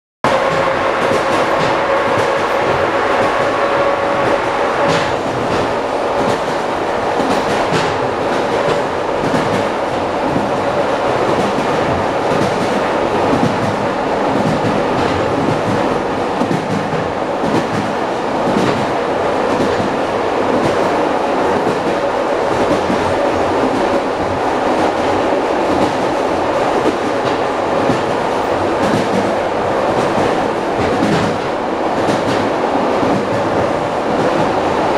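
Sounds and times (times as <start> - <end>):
train rumbling: 0.2 - 34.9.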